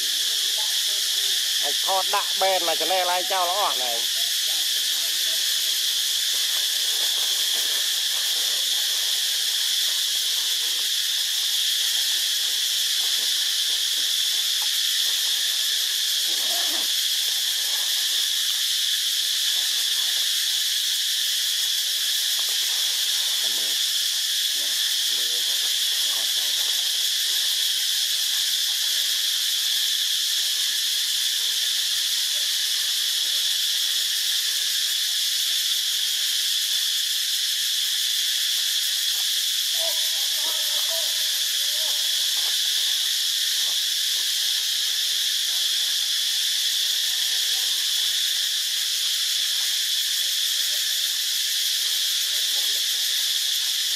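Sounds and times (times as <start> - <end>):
high-pitched insect chorus: 0.0 - 53.9.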